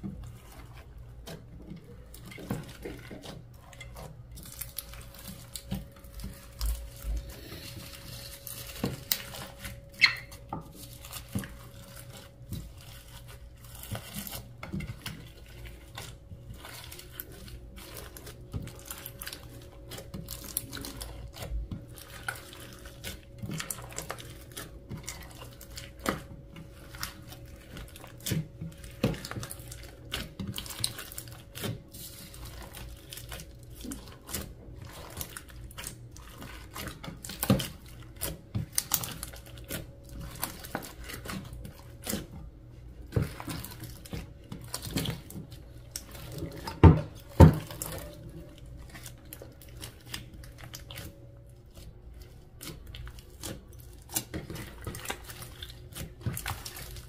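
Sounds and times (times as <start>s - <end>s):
slime squelching by hand: 0.0s - 57.0s.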